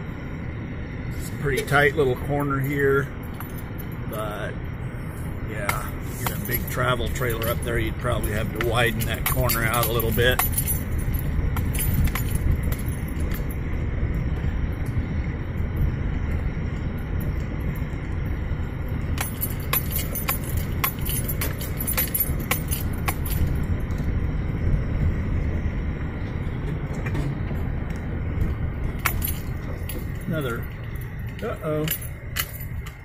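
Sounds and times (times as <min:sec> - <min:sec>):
vehicle engine and tyre rumble: 0:00.0 - 0:33.0.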